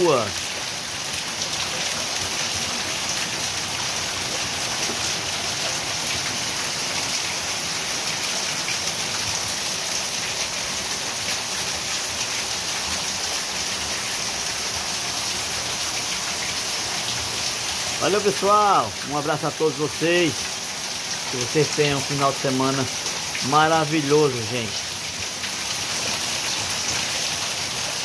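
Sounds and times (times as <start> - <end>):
heavy rain on leaves and a tile roof: 0.0 - 28.0.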